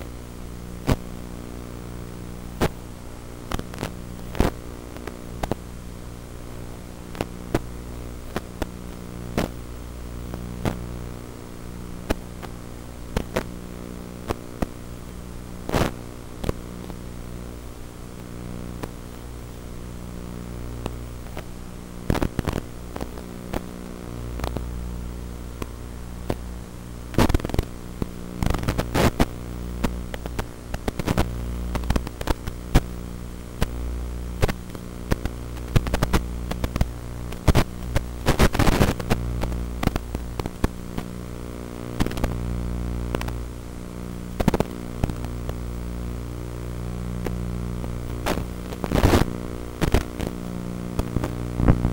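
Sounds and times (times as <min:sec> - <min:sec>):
electrical buzz and hum: 0:00.0 - 0:51.9
static crackles: 0:00.0 - 0:51.9.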